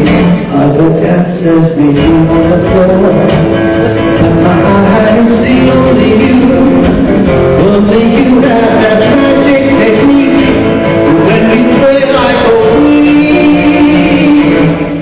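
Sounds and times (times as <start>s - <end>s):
band playing music: 0.0s - 15.0s
guitar: 0.0s - 15.0s.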